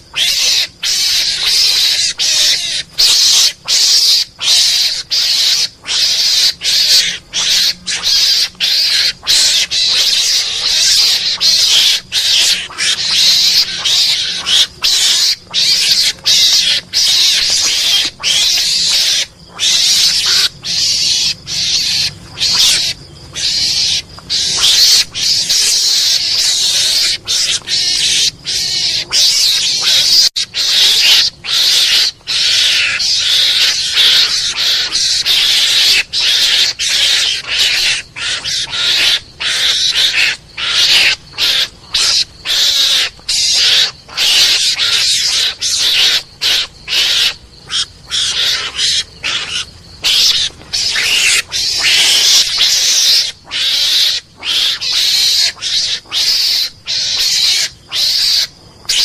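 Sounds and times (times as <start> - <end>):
harsh raspy animal calls: 0.0 - 59.0.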